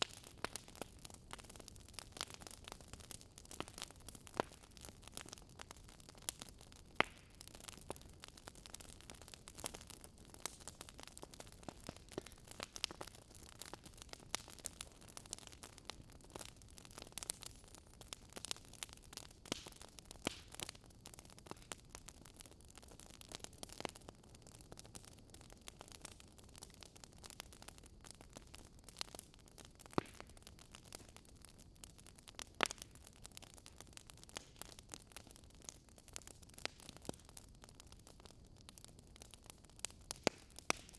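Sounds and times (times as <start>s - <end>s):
sharp fire snaps: 0.0s - 40.9s
wood fire crackling: 0.0s - 40.9s.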